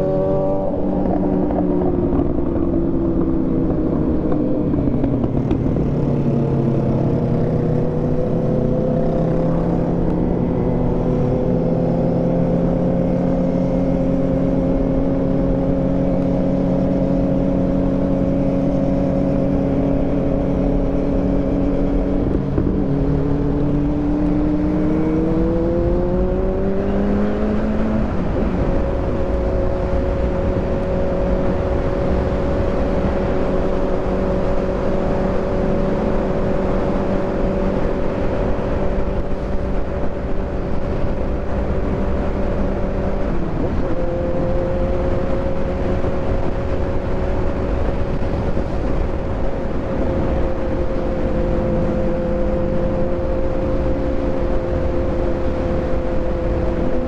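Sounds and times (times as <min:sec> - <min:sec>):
wind rush: 0:00.0 - 0:57.0.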